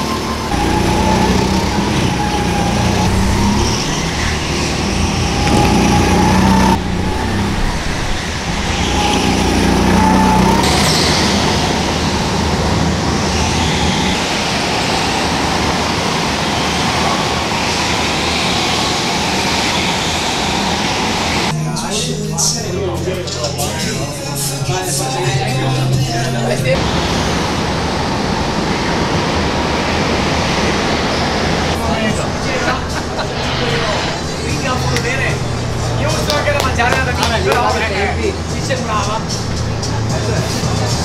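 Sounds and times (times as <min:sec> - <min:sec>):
go-kart engines revving: 0:00.0 - 0:21.6, 0:23.6 - 0:41.0.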